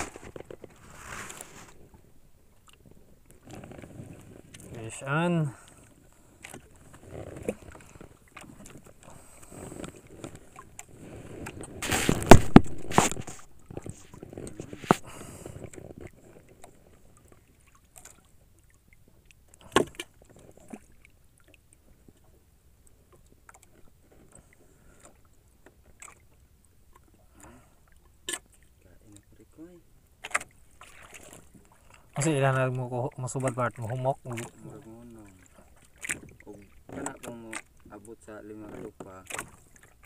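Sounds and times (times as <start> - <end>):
water sloshing: 0.0 - 40.0.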